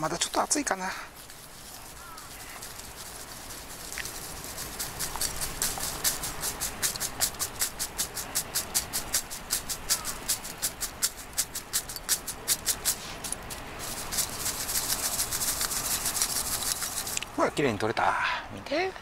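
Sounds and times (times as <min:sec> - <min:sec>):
mesh colander shaking charcoal: 0:00.0 - 0:17.4.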